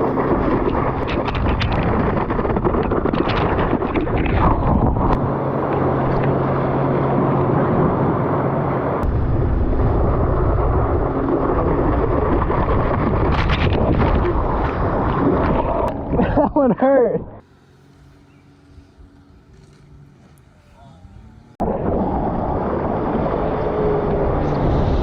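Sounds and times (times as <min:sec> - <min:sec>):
wind buffeting microphone: 0:00.0 - 0:16.6, 0:21.0 - 0:25.0
jet ski engine drone: 0:00.0 - 0:25.0.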